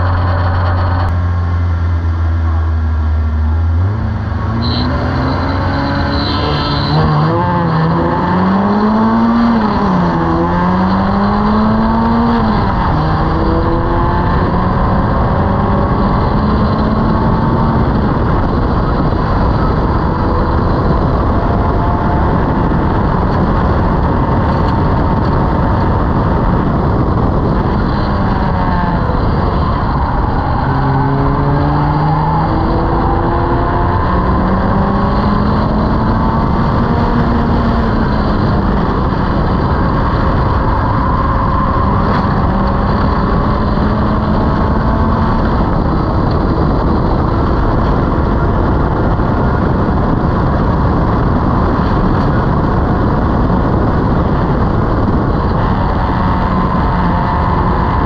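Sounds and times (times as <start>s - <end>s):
racing car engine revving: 0.0s - 58.0s
wind and road rush: 0.0s - 58.0s.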